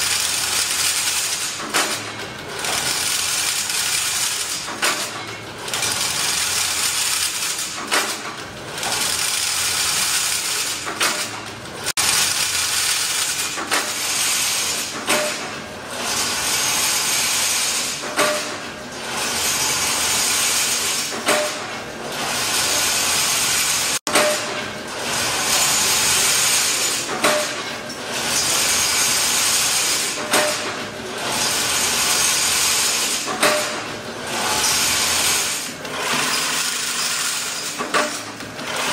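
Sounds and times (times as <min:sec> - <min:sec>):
weaving machine metallic whir: 0:00.0 - 0:38.9.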